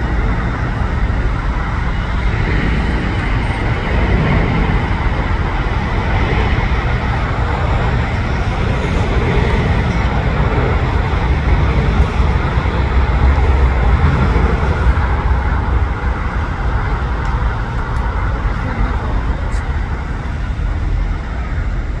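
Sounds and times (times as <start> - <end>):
jet airliner engines rumbling: 0.0 - 22.0.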